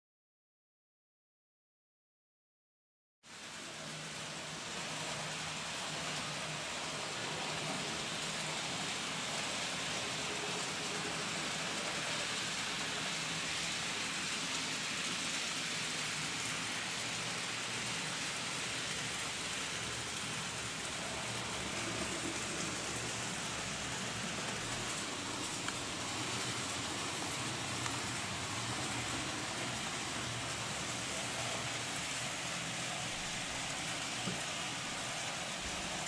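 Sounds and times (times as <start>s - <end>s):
model trains rushing: 3.3s - 36.0s.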